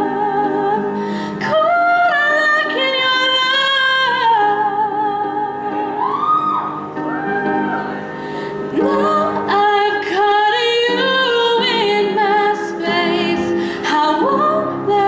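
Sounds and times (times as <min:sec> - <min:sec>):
woman singing into a microphone: 0:00.0 - 0:06.7, 0:08.7 - 0:15.0.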